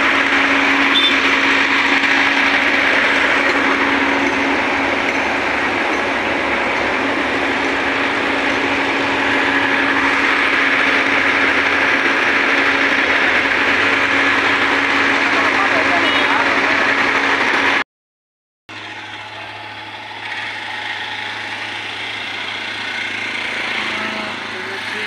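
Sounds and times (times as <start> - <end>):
diesel truck engine running: 0.0 - 17.8, 18.7 - 25.0.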